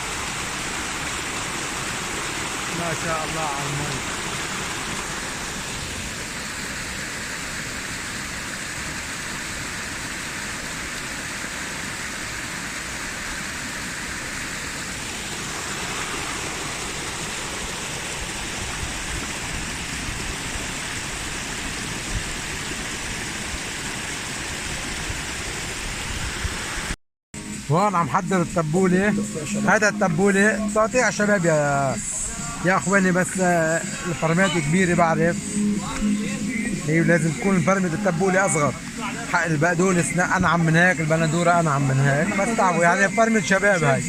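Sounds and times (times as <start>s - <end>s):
river water rushing over rocks: 0.0s - 27.0s, 27.7s - 44.0s.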